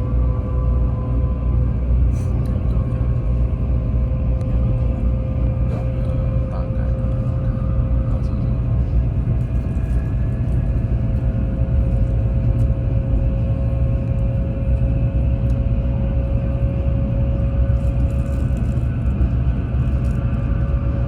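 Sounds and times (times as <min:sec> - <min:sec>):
train rumbling with faint whine: 0:00.0 - 0:21.0.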